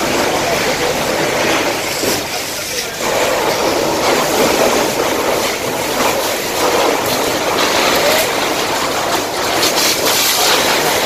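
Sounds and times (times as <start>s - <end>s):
fire hose spraying water: 0.0s - 11.0s.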